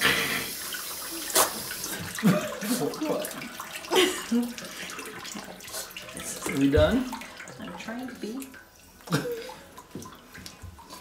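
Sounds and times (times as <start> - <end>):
water running into bathtub: 0.0 - 11.0.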